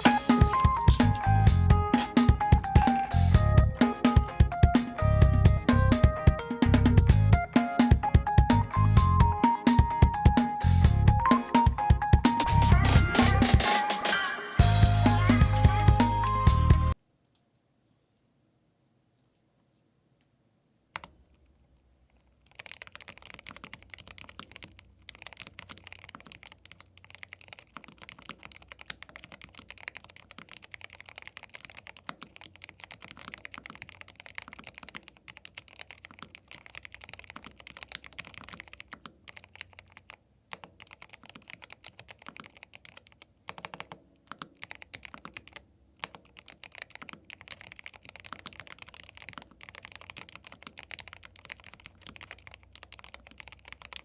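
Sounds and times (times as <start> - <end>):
typing on mechanical keyboard: 0.0 - 8.6, 9.4 - 14.2, 22.1 - 54.0.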